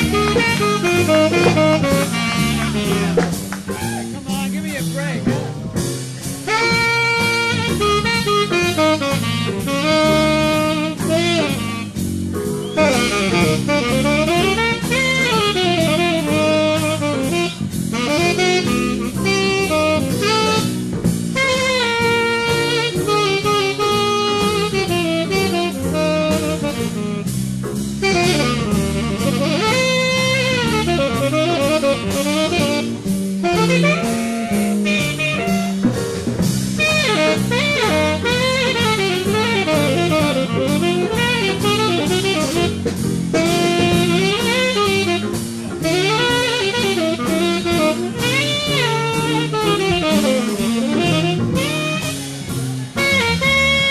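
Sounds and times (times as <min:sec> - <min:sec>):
big band jazz: 0:00.0 - 0:53.9
saxophone lead: 0:00.0 - 0:53.9.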